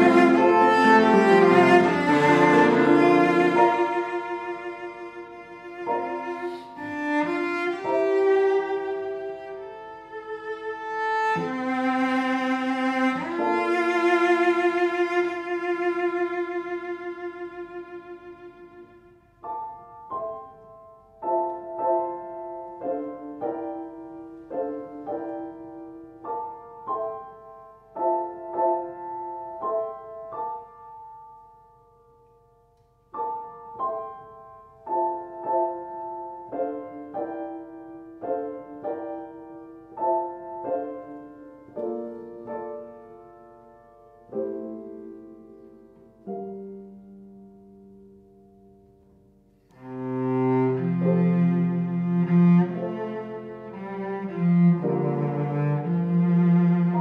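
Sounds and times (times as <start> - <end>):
grand piano chords: 0.0 - 57.0.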